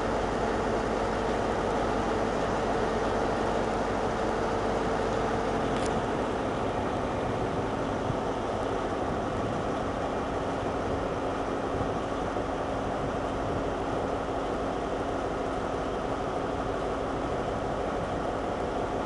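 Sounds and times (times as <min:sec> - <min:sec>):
diesel train engines rumbling: 0:00.0 - 0:19.0.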